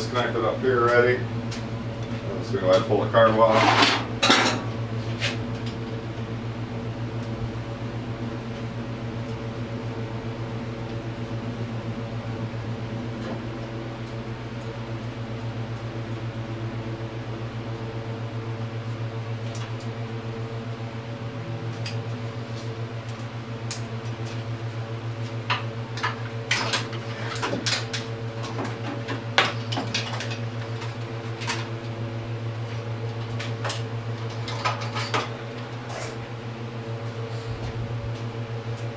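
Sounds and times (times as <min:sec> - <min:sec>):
fan humming: 0:00.0 - 0:38.9.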